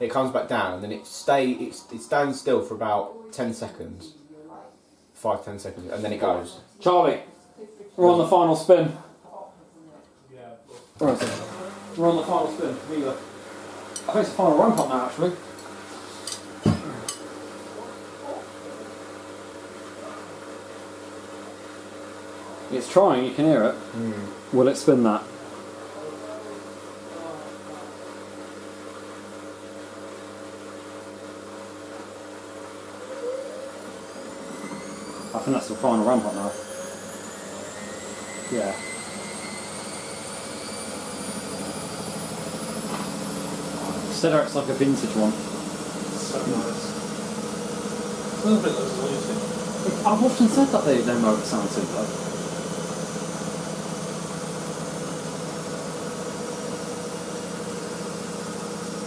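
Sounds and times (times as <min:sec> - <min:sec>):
washing machine motor hum: 0:00.0 - 0:04.0, 0:11.0 - 0:59.0.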